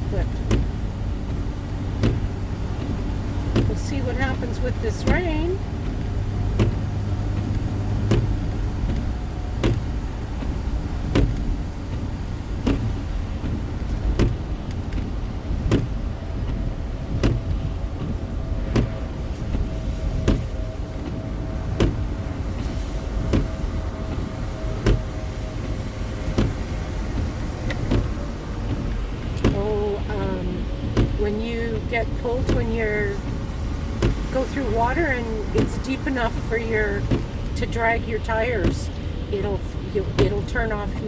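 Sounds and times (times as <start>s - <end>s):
road and rain noise inside car: 0.0s - 41.0s
windshield wipers knocking: 0.0s - 41.0s.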